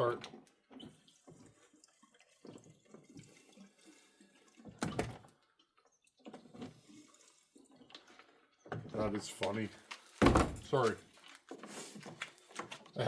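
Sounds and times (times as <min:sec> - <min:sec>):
trickle of fuel being poured: 0:00.5 - 0:13.0.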